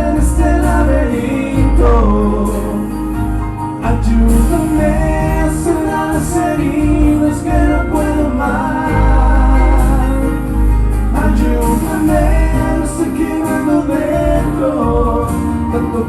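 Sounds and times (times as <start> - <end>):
band playing a pop ballad: 0.0 - 16.0
heavy bass line: 0.0 - 16.0.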